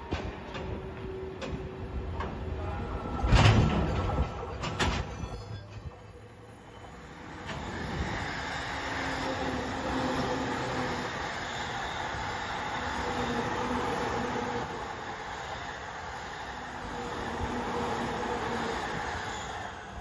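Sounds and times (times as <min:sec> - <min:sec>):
low train rumble: 0:00.0 - 0:20.0
electric train rushing past: 0:00.5 - 0:20.0.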